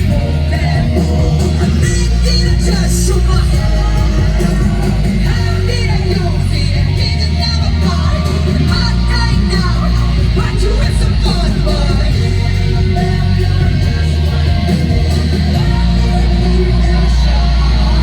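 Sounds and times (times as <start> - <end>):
live rock music: 0.0 - 18.0
pounding bass: 0.0 - 18.0.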